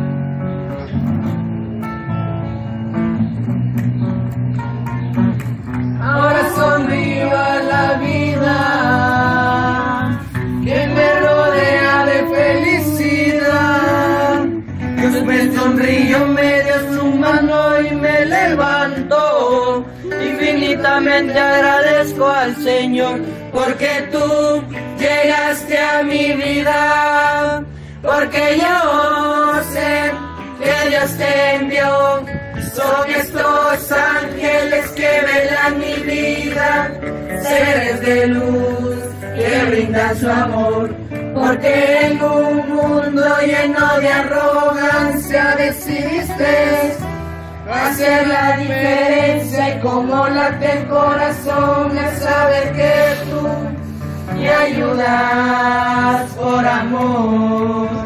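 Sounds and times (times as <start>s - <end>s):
acoustic guitar: 0.0s - 58.0s
male and female voices singing: 6.0s - 58.0s.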